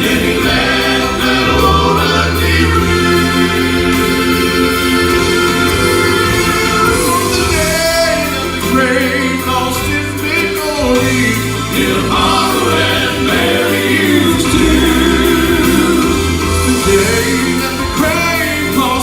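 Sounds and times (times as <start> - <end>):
instrumental backing: 0.0 - 19.0
vocal quartet singing in harmony: 0.0 - 19.0.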